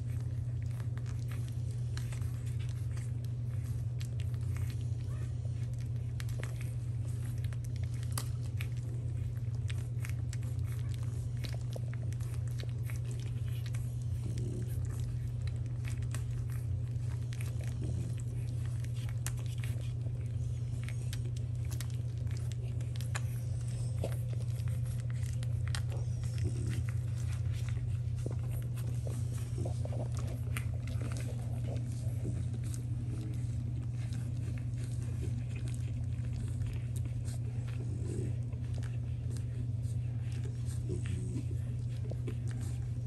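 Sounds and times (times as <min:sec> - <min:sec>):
puppies suckling: 0:00.0 - 0:43.0
steady low hum: 0:00.0 - 0:43.0.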